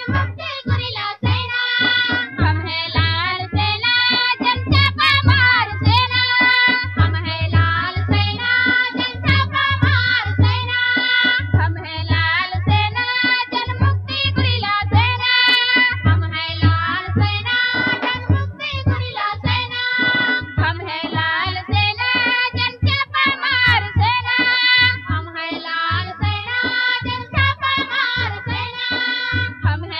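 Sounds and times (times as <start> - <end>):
low drum beat: 0.0 - 29.9.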